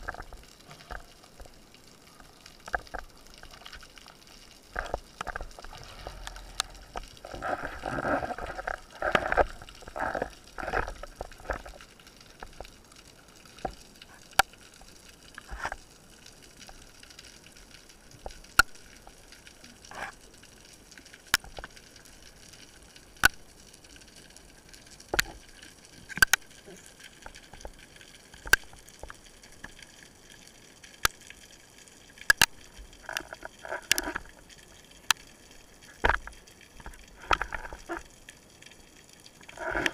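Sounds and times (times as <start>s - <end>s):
underwater water swishing: 0.0s - 39.9s.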